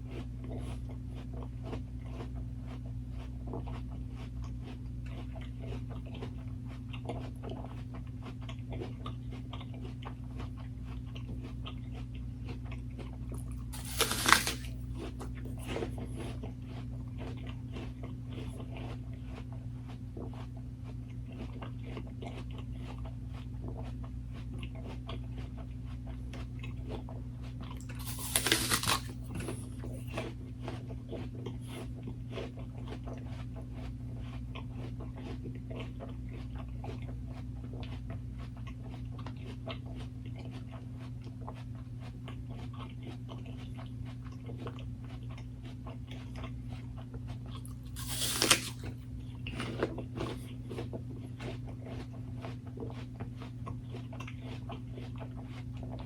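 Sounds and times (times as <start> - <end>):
chewing and crunching food: 0.0 - 56.0
low electrical hum: 0.0 - 56.0.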